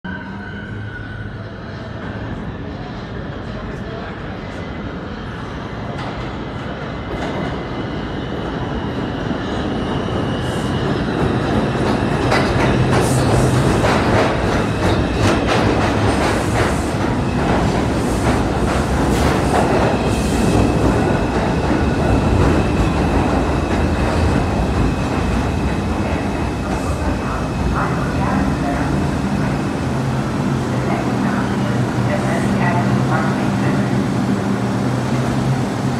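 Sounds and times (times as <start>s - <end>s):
high train whine: 0.0s - 35.9s
subway train rumble: 0.0s - 35.9s.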